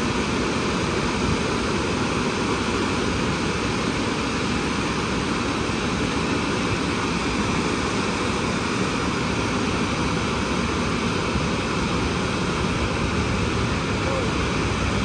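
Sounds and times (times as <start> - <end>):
car wash blowers rushing air: 0.0 - 15.0.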